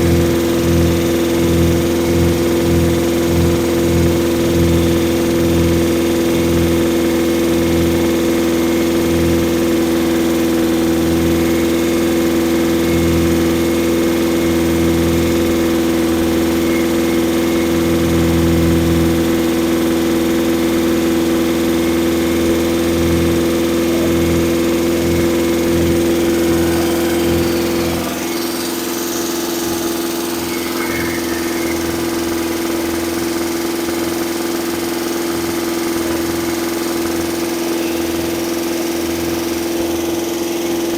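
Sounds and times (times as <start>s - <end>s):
engine running at high idle: 0.0s - 40.9s.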